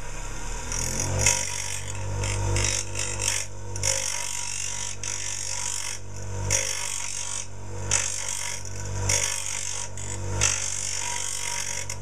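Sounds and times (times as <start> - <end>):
bench grinder motor hum: 0.0 - 12.0
metal grinding on stone: 0.7 - 12.0.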